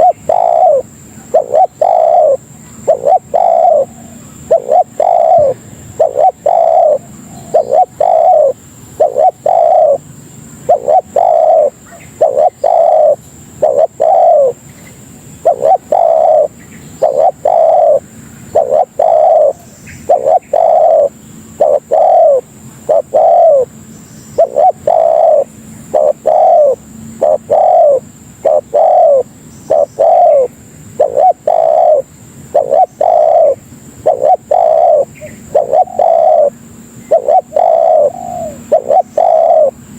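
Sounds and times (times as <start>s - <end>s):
dove cooing: 0.0s - 23.8s, 24.4s - 39.9s.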